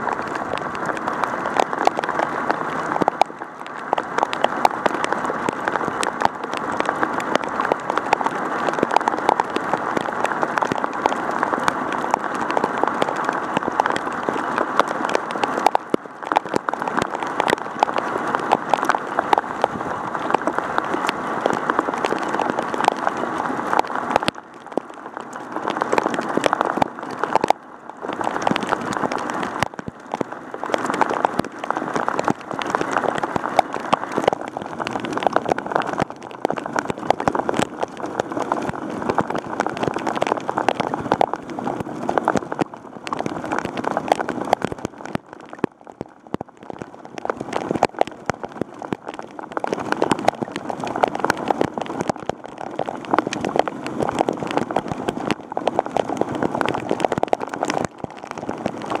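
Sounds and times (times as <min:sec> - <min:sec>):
heavy rain hitting camera: 0:00.0 - 0:59.0.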